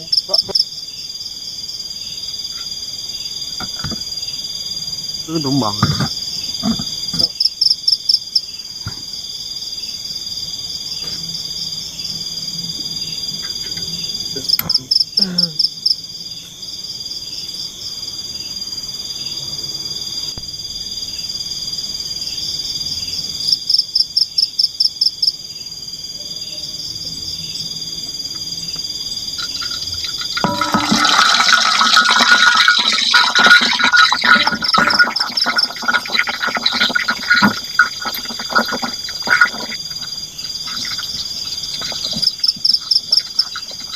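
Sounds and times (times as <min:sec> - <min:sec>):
frogs calling: 0:00.0 - 0:43.9
insects buzzing and trilling: 0:00.0 - 0:43.9.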